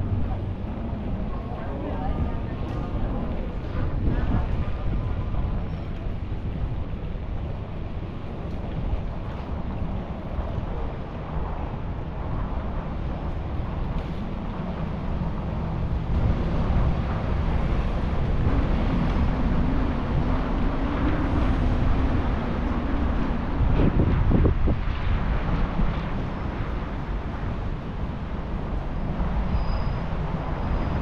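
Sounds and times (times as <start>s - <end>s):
road rumble: 0.0s - 31.0s
wind rushing over microphone: 0.0s - 31.0s.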